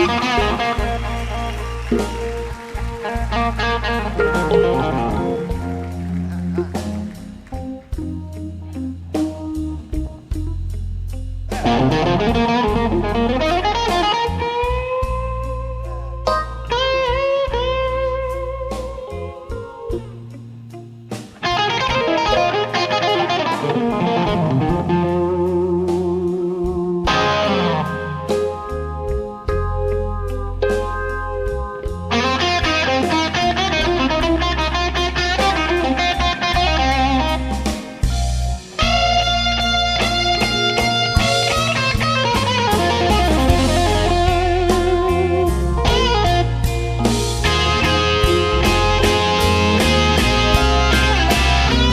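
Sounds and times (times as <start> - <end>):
electric guitar solo: 0.0 - 10.4, 11.5 - 51.9
blues band backing: 0.0 - 51.9
drums: 0.0 - 51.9.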